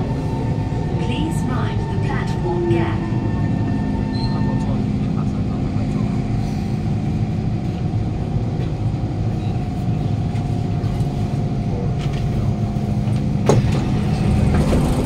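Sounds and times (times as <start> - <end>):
train carriage hum: 0.0 - 15.0.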